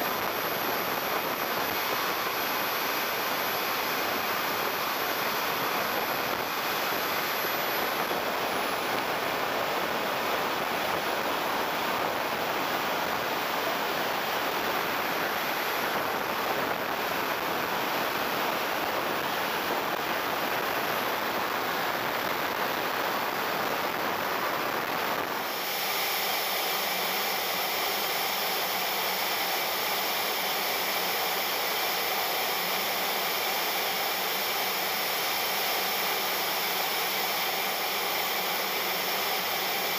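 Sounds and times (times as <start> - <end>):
high turbine whine: 0.0 - 39.9
jet turbine exhaust rush: 0.0 - 39.9.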